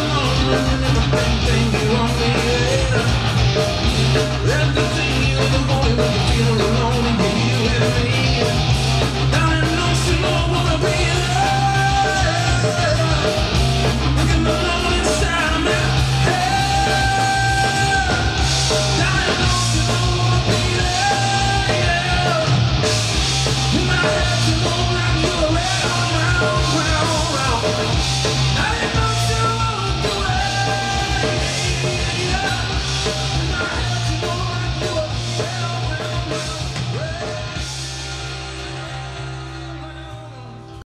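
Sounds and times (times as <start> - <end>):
male singer: 0.0 - 3.4, 4.1 - 22.6, 23.6 - 27.9, 28.5 - 37.9, 38.6 - 40.8
electric guitar: 0.0 - 40.8
bass guitar: 0.0 - 40.9
drums: 0.0 - 40.9.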